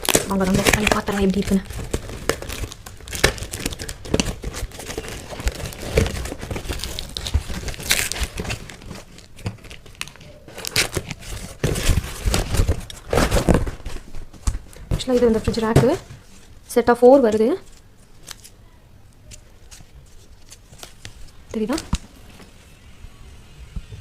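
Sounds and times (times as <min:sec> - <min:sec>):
packaging crinkling and tearing: 0:00.0 - 0:15.6, 0:17.5 - 0:18.6, 0:19.2 - 0:22.0.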